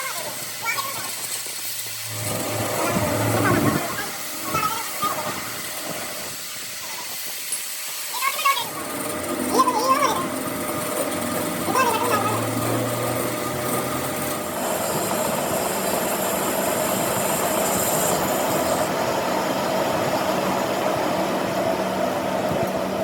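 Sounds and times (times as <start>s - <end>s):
mechanical hiss and rumble: 0.0s - 23.0s.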